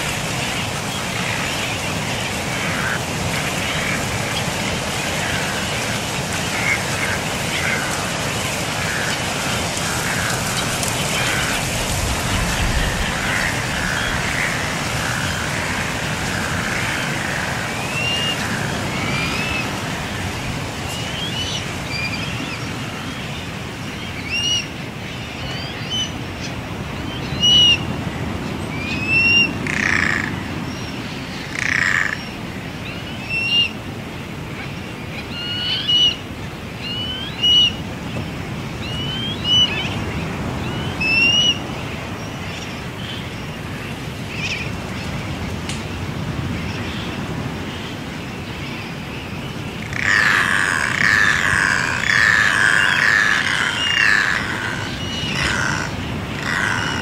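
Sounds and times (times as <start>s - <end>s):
terns calling: 0.0s - 27.9s, 28.7s - 33.8s, 34.6s - 57.0s.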